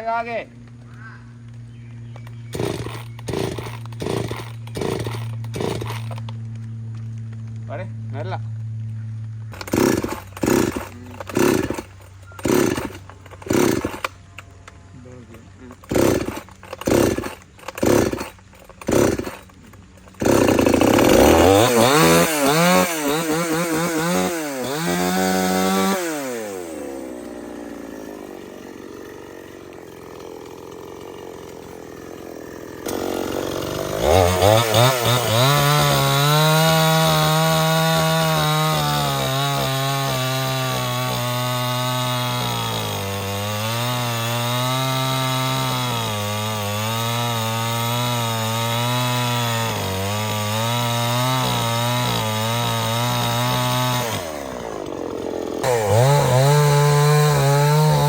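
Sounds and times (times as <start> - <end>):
chainsaw cutting wood: 0.0 - 14.2, 15.1 - 58.0
chainsaw revving: 2.2 - 7.4, 9.5 - 14.2, 15.1 - 58.0.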